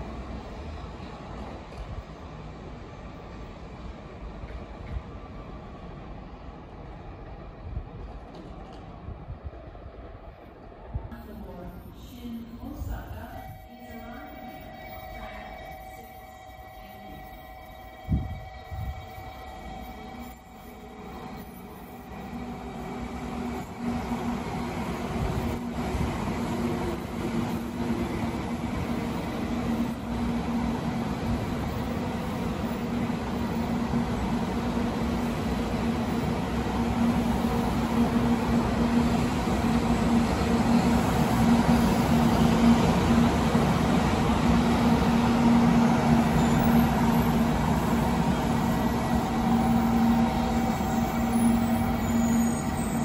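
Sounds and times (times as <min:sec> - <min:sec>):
train running gear humming: 0:00.0 - 0:53.0.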